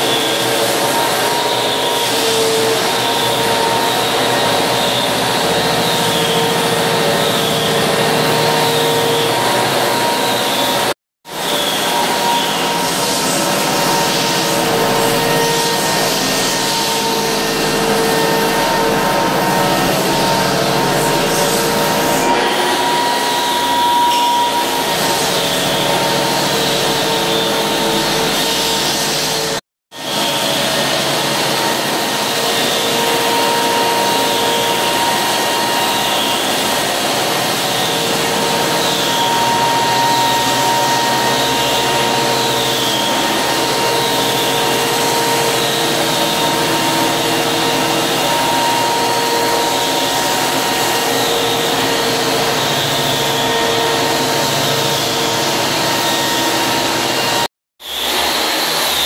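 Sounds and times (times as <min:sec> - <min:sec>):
floor sanding machine running: 0:00.0 - 0:59.0
handheld sander: 0:00.0 - 0:59.0.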